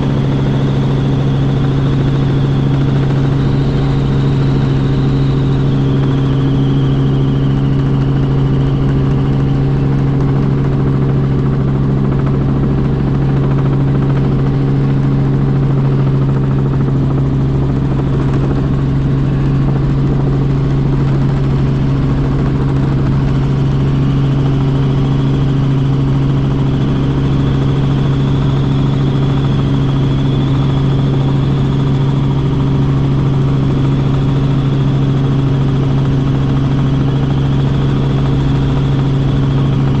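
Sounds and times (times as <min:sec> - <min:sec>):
faint high whine: 0:00.0 - 0:40.0
helicopter engine and rotors drone: 0:00.0 - 0:40.0.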